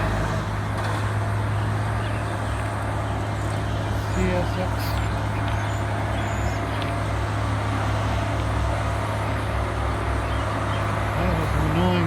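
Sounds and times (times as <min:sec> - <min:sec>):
track maintenance machinery hum: 0:00.0 - 0:12.0.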